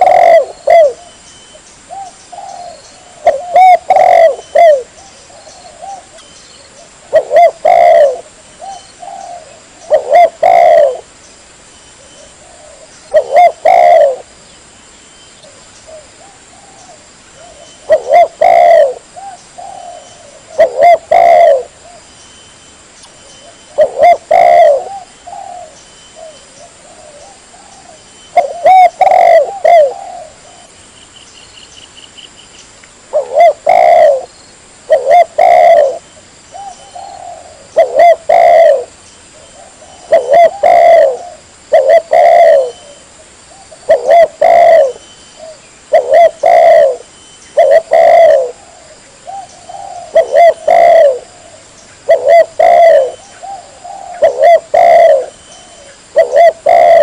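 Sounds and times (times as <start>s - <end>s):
dove cooing: 0.0s - 11.1s, 12.1s - 14.4s, 15.5s - 22.1s, 23.4s - 30.8s, 33.1s - 34.3s, 34.9s - 57.0s.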